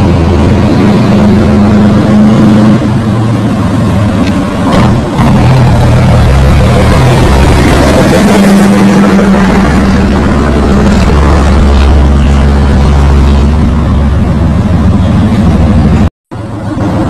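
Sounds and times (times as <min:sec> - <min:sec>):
rushing noise: 0:00.0 - 0:17.0
truck diesel engine droning: 0:00.0 - 0:17.0.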